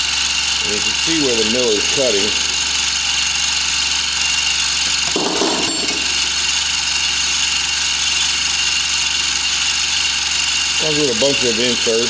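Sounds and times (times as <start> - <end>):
milling machine cutting metal: 0.0 - 12.0.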